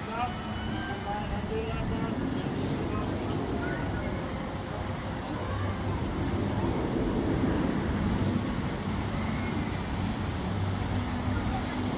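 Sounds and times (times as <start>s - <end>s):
amusement ride machinery humming: 0.0s - 11.9s
wind noise: 1.2s - 11.9s.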